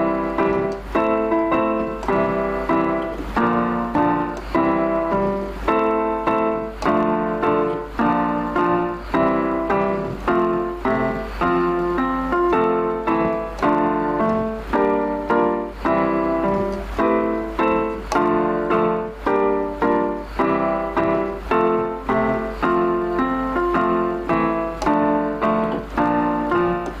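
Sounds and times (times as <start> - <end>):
piano piece: 0.0 - 27.0.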